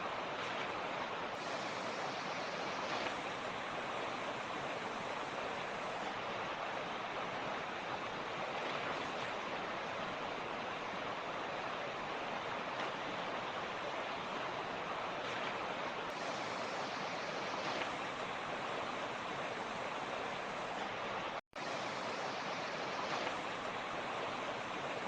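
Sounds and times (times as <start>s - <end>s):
creek running over rocks: 0.0s - 25.0s.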